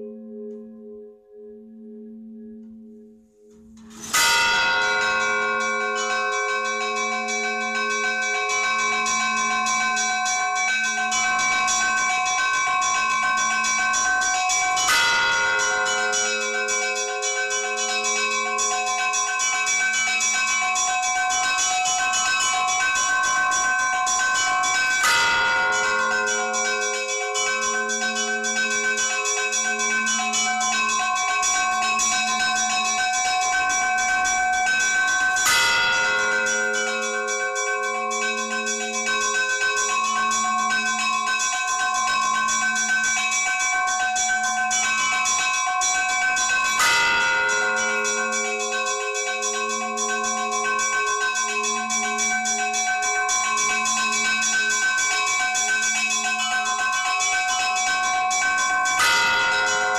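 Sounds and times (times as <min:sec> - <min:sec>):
small bells chiming rapidly: 0:03.9 - 0:59.9.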